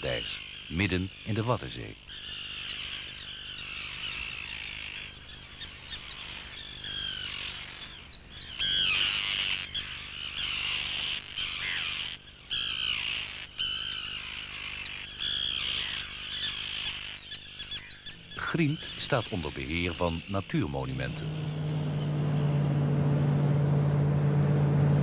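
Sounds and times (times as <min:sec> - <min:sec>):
flock of shorebirds calling: 0:00.0 - 0:22.8.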